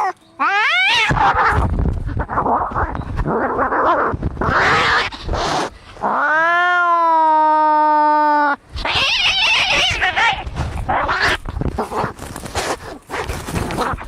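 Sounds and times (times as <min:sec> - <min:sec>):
angry cats caterwauling: 0:00.0 - 0:12.3.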